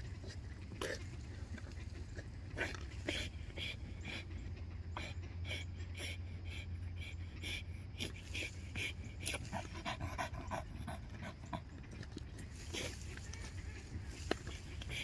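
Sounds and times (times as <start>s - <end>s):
dog panting hard: 0.0s - 15.0s
low steady hum: 0.0s - 15.0s.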